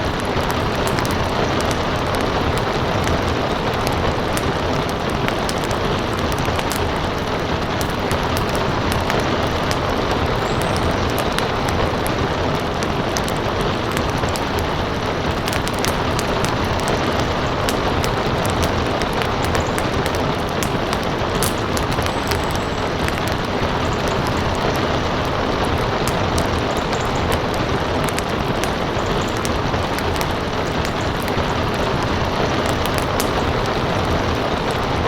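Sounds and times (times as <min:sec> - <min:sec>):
steady rain: 0:00.0 - 0:35.0
wood fire crackling: 0:00.0 - 0:35.0.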